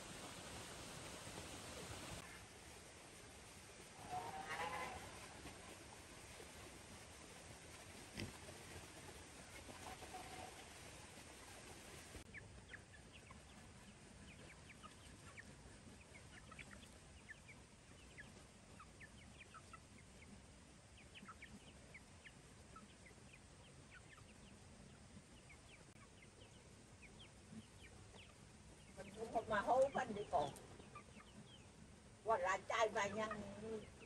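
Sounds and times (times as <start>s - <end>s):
low steady hiss: 0.0s - 34.0s
chicks peeping: 4.6s - 34.0s.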